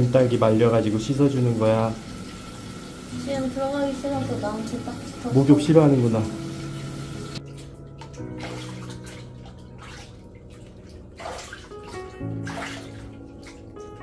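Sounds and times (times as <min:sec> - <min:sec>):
soft background music: 0:00.0 - 0:14.0
water splashing and pouring: 0:00.0 - 0:14.0.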